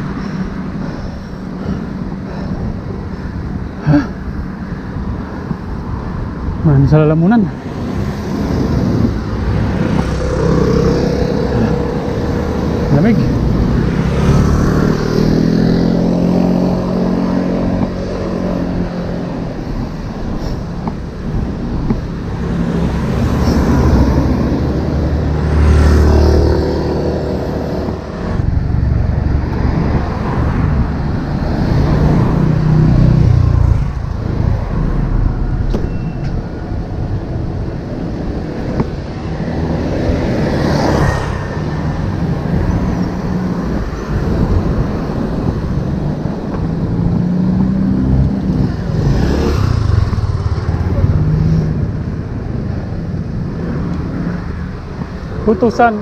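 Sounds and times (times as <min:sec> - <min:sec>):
road traffic passing: 0:00.0 - 0:56.0
vehicle engine humming: 0:00.0 - 0:56.0
wind noise on microphone: 0:07.5 - 0:55.5.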